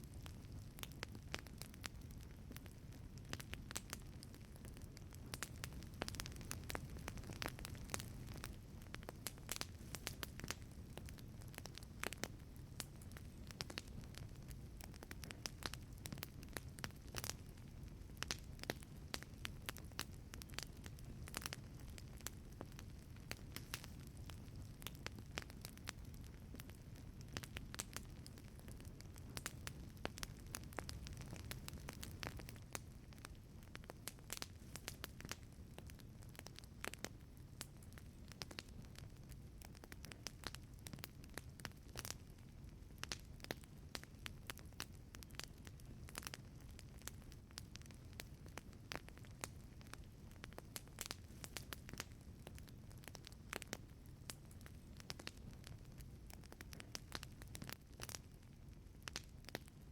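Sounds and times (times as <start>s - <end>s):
fire low rumble: 0.0s - 59.9s
wood fire crackling and popping: 0.0s - 59.9s.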